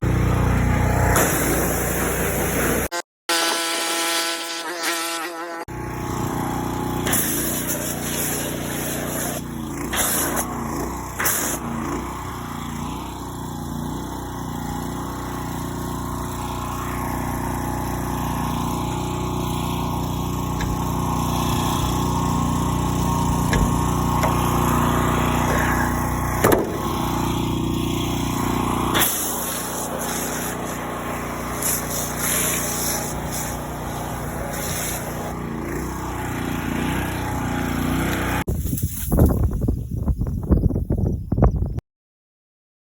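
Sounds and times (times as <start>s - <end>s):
farm machine engine running: 0.0s - 2.8s, 5.7s - 38.5s.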